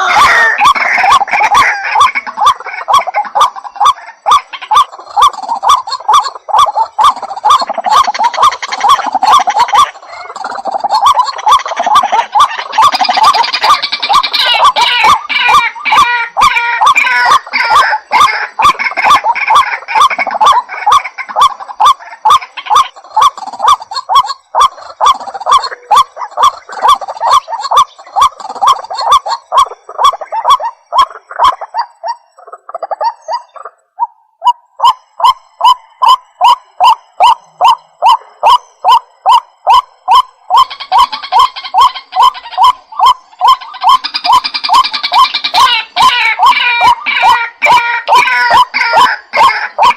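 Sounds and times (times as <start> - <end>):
waterhen calling: 0.0 - 49.9.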